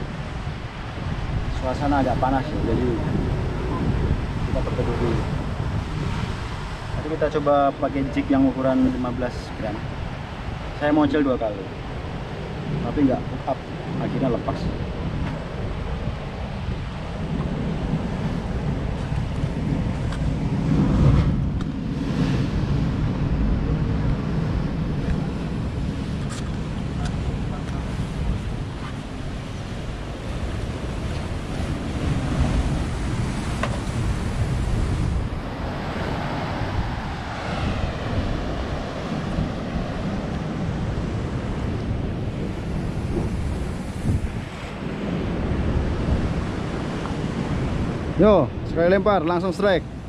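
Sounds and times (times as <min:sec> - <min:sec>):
surf washing against rocks: 0:00.0 - 0:50.0
wind rumbling on microphone: 0:00.0 - 0:50.0.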